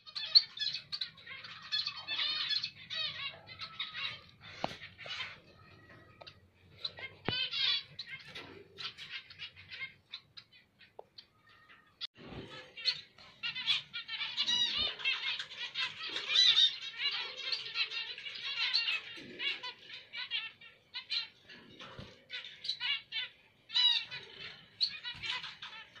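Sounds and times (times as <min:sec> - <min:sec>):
finches chirping: 0:00.0 - 0:26.0.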